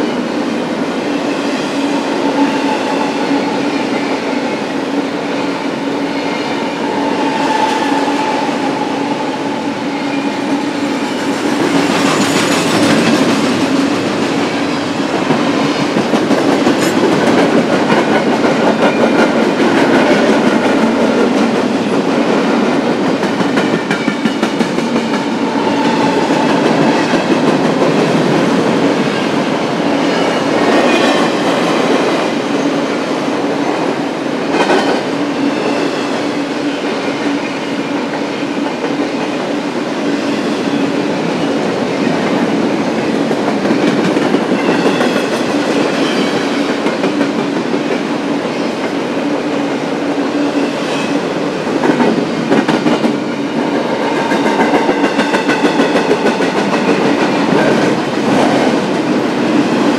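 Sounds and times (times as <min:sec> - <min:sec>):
freight train wheels clacking on rails: 0:00.0 - 0:59.9.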